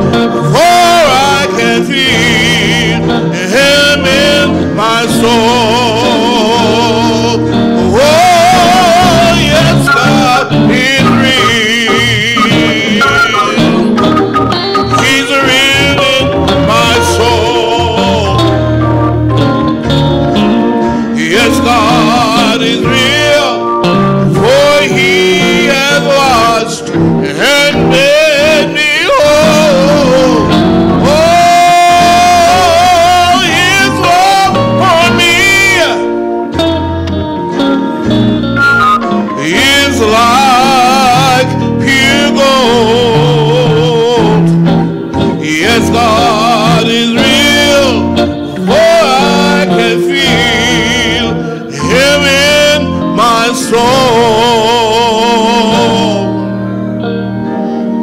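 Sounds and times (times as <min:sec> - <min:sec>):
man singing with vibrato: 0:00.0 - 0:36.6, 0:39.0 - 0:57.8
electric guitar: 0:00.0 - 0:58.0
keyboard: 0:00.0 - 0:58.0.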